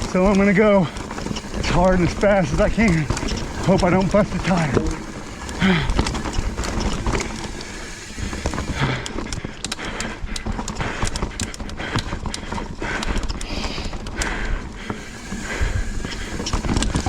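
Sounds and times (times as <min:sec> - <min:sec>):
bike rattling clicks and knocks: 0:00.0 - 0:17.0
bike tyres rolling over dirt: 0:00.0 - 0:17.0.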